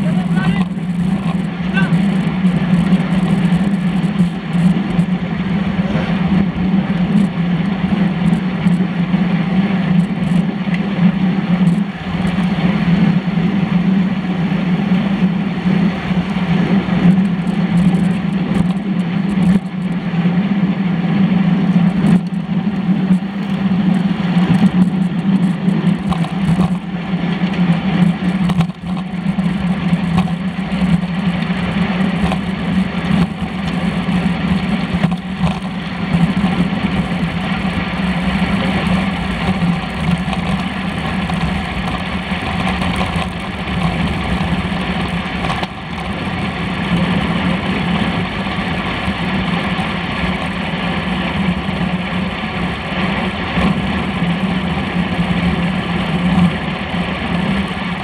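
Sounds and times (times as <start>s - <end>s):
low hum: 0.0s - 58.0s
road vibration: 0.0s - 58.0s.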